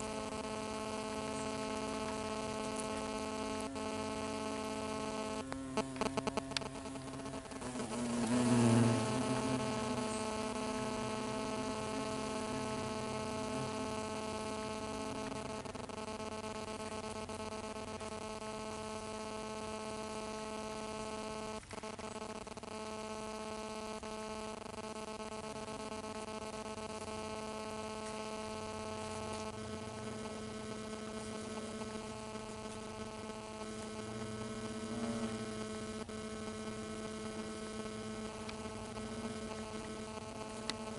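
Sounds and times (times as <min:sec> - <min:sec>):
hornets buzzing: 0:00.0 - 0:40.9.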